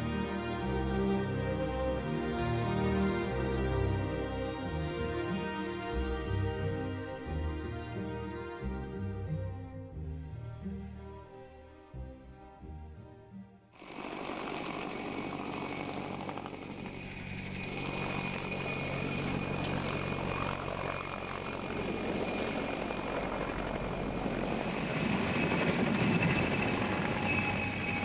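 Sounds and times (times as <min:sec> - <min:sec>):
helicopter flying overhead: 0:00.0 - 0:09.1, 0:13.8 - 0:28.0.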